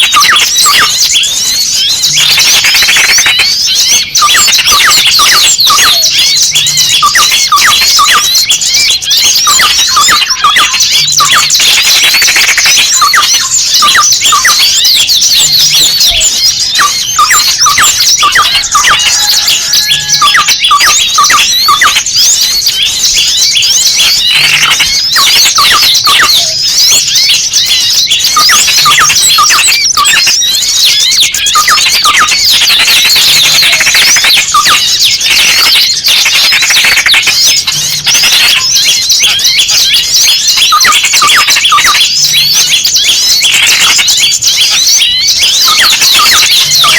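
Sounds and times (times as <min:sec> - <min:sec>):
small birds chirping chorus: 0:00.0 - 0:46.9.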